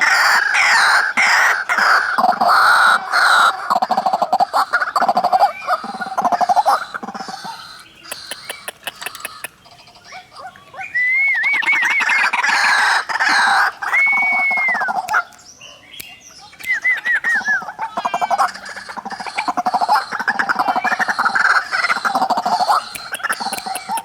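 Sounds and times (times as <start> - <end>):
waterhens calling: 0.0 - 15.4, 16.5 - 24.0.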